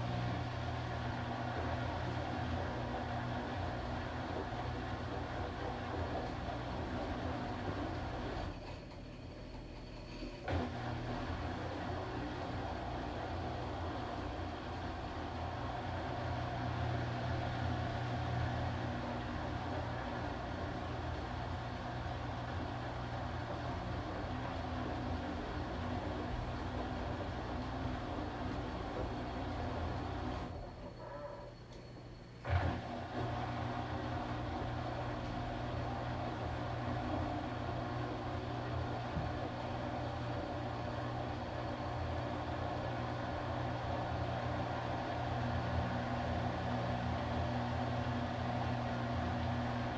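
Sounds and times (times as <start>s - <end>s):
washing machine running: 0.0s - 31.4s, 32.4s - 49.9s.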